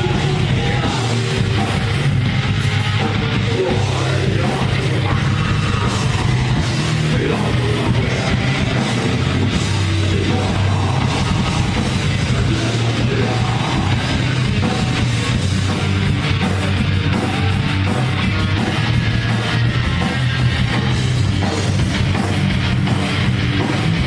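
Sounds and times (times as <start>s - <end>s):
heavy metal song: 0.0s - 24.0s.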